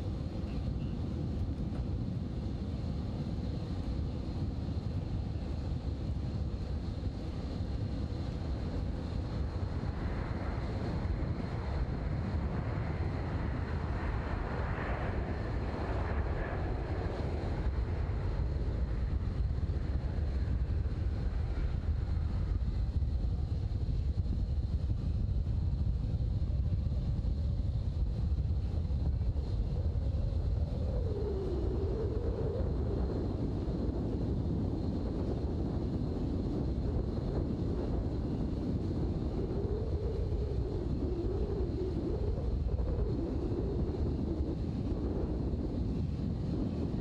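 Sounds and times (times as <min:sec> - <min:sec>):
faint wavering hum: 0:00.0 - 0:47.0
jet engines low rumble: 0:00.0 - 0:47.0
wind buffeting microphone: 0:00.0 - 0:47.0.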